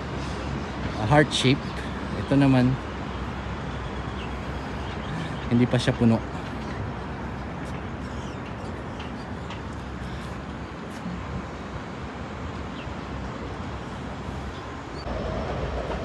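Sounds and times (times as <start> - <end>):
distant city traffic: 0.0 - 16.0.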